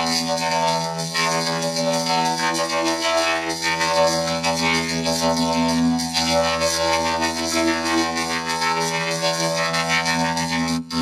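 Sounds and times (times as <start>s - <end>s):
buzzing robotic drone: 0.0s - 11.0s.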